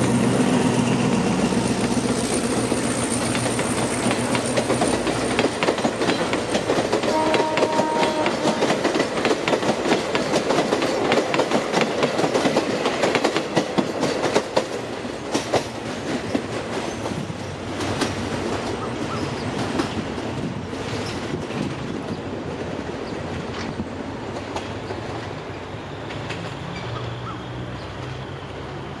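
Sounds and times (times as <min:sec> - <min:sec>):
train wheels clicking on rail joints: 0:00.0 - 0:28.9
train rolling rumble: 0:00.0 - 0:29.0.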